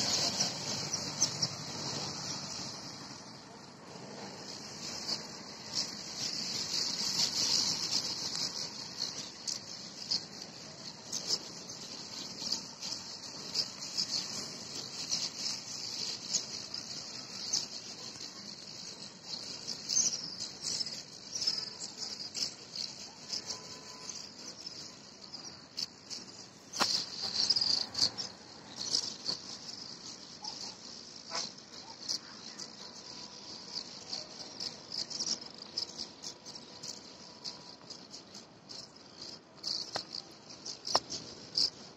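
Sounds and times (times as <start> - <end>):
insects chorus: 0.0 - 41.9
short chirps and quick calls: 0.0 - 41.9.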